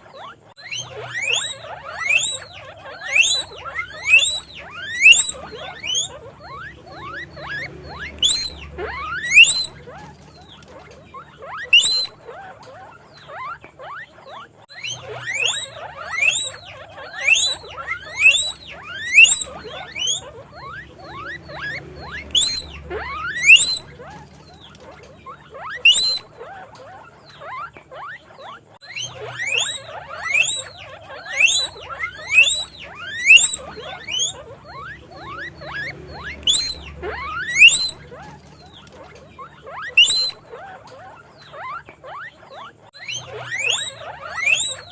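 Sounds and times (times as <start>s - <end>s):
guinea pigs squeaking: 0.0s - 44.9s.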